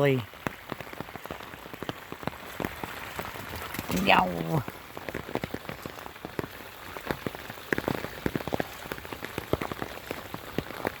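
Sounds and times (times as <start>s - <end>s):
rain hiss: 0.0s - 11.0s
raindrops tapping a surface: 0.0s - 11.0s.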